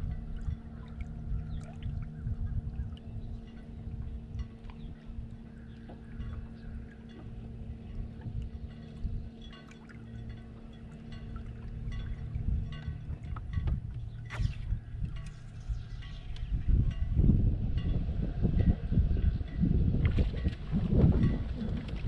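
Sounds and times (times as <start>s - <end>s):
electric boat motor humming: 0.0s - 22.0s
wind on microphone: 0.0s - 22.0s.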